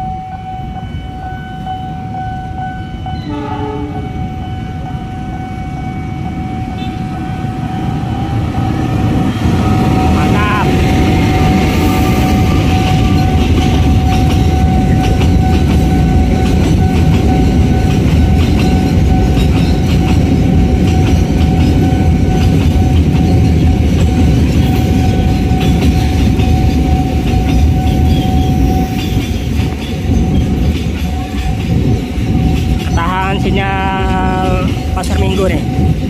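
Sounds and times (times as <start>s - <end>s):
freight train rumbling past: 0.0s - 36.0s
steady high tone: 0.0s - 36.0s.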